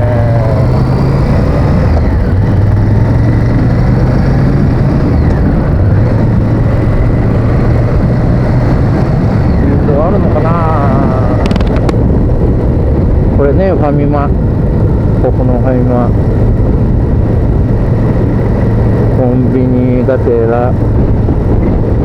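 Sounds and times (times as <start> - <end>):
motorcycle engine running: 0.0 - 22.0
wind rushing on microphone: 0.0 - 22.0.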